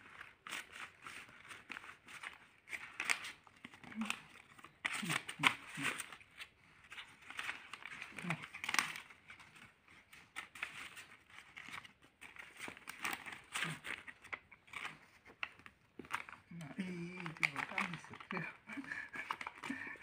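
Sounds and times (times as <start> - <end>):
paper banknotes rustling: 0.0 - 20.0.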